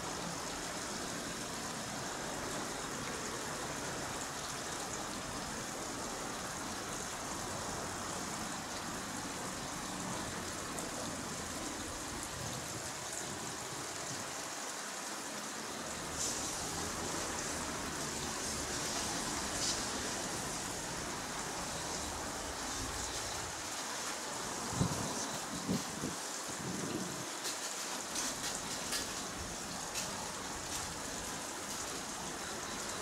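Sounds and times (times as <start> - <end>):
steady outdoor hiss: 0.0 - 33.0.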